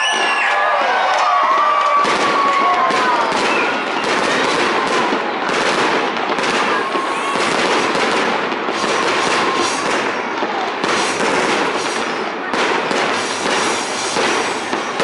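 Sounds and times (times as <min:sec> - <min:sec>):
fireworks crackling and popping: 0:00.0 - 0:15.0
sharp firework reports: 0:01.9 - 0:15.0.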